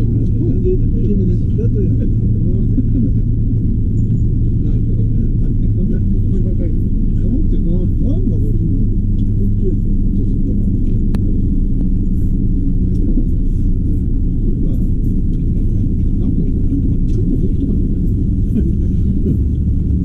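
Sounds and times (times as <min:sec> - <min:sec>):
train interior rumble and hum: 0:00.0 - 0:20.0.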